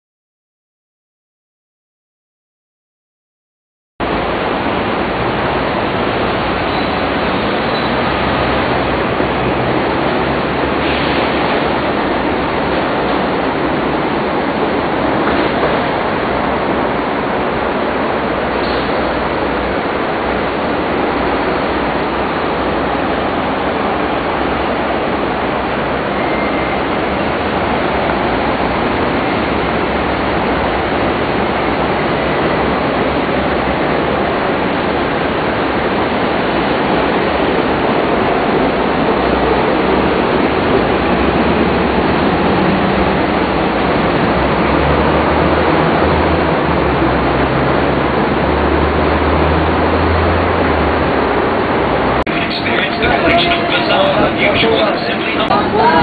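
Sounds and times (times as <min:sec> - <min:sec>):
steady rushing noise: 0:04.0 - 0:56.0.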